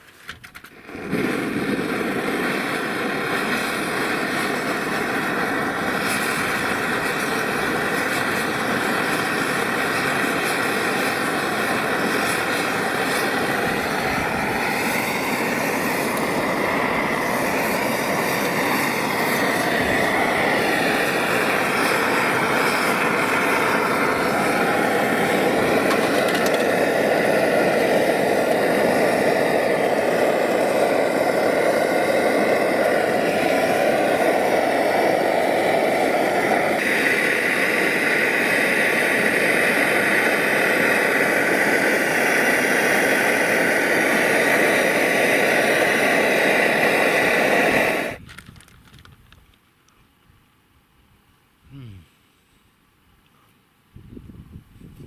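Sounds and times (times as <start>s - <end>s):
electric air pump humming: 0.0s - 48.3s.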